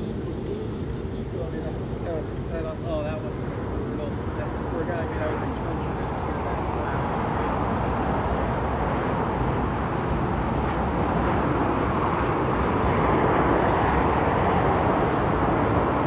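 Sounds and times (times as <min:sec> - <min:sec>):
jet engine rush: 0:00.0 - 0:16.0.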